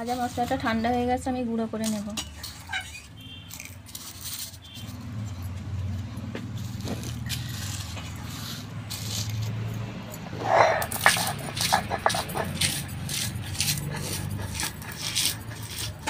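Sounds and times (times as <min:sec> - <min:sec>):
spice seeds scraping on stone slab: 0:00.0 - 0:01.2, 0:01.9 - 0:16.0.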